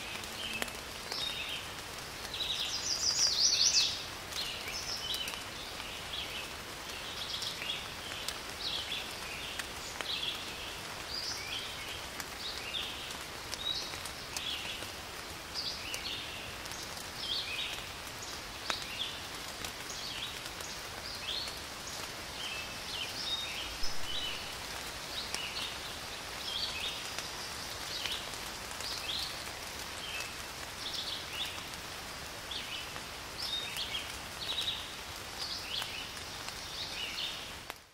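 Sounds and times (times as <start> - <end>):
small birds chirping: 0.0 - 37.7
rain falling on shrubs: 0.0 - 37.9.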